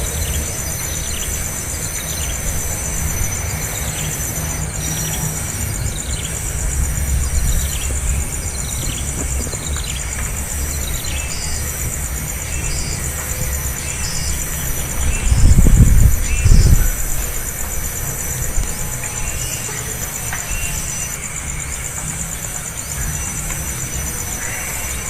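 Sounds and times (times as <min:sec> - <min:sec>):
fast-pulsing insect drone: 0:00.0 - 0:25.0.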